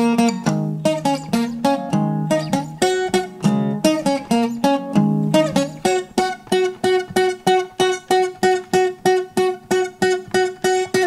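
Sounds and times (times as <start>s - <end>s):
acoustic guitar strummed: 0.0s - 11.0s.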